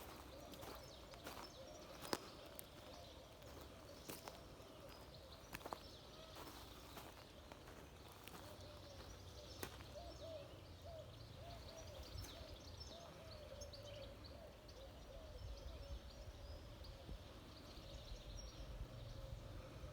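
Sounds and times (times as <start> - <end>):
steady outdoor hiss: 0.0 - 19.9.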